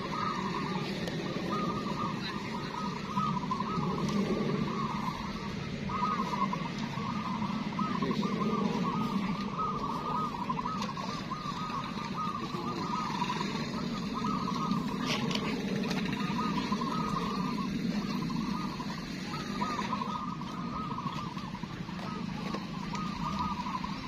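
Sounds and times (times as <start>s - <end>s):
doves cooing: 0.0s - 24.0s.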